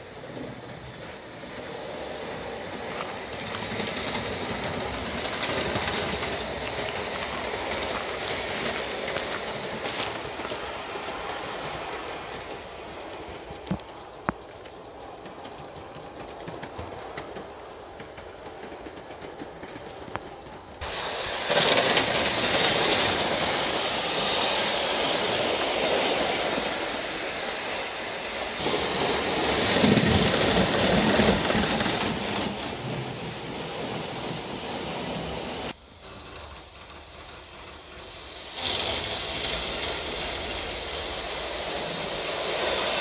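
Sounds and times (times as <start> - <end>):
steam locomotive hissing: 0.0 - 43.0.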